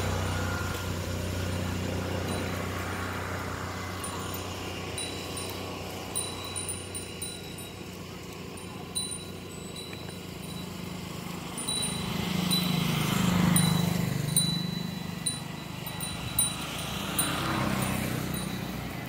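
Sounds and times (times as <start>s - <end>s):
low engine-like hum: 0.0s - 19.0s
steady high ring: 0.6s - 19.0s
small bells tinkling: 1.1s - 19.0s.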